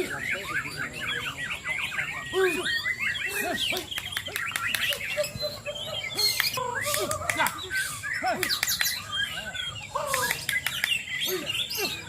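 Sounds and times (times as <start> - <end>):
birds singing whistles and chirps: 0.0 - 12.0.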